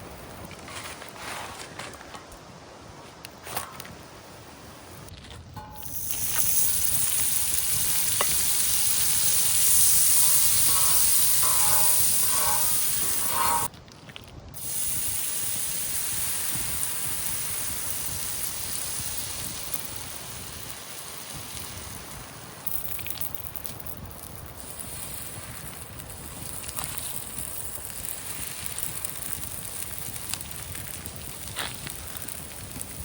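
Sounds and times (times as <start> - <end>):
batter sizzling in a pan: 5.6 - 13.7, 14.6 - 33.0.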